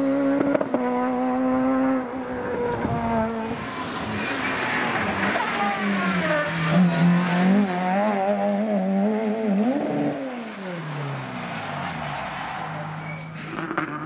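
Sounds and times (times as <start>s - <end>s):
rally car engine passing by: 0.0s - 14.0s.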